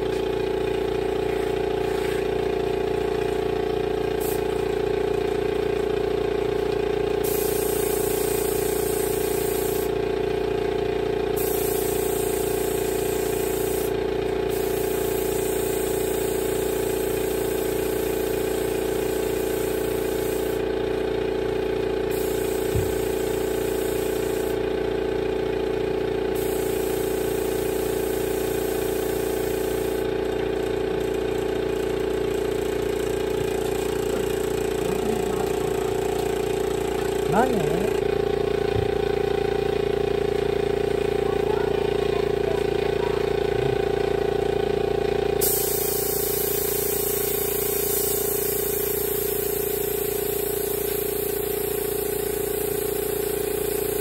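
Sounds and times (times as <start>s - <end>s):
air compressor running: 0.0s - 54.0s.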